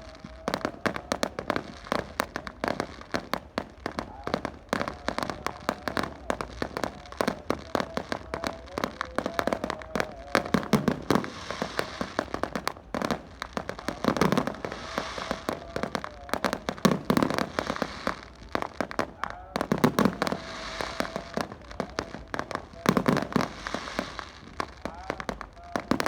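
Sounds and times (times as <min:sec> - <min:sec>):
firecrackers popping and crackling: 0:00.0 - 0:26.0
heavy firework bangs: 0:00.0 - 0:26.0.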